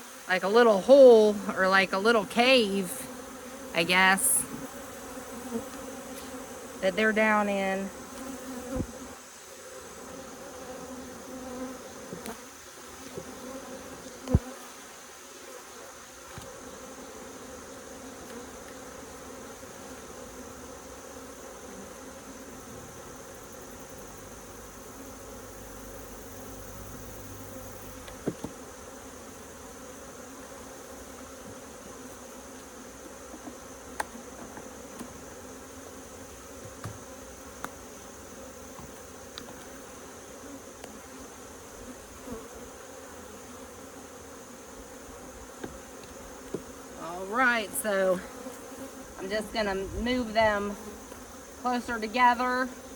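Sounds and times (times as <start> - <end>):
honeybees buzzing: 0.0 - 52.9.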